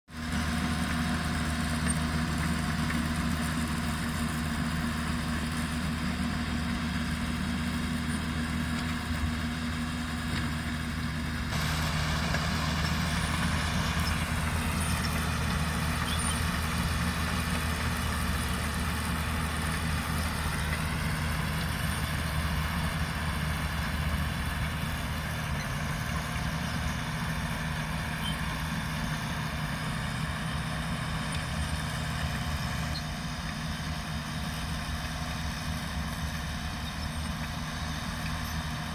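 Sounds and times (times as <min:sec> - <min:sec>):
heavy diesel engines running: 0:00.1 - 0:38.9.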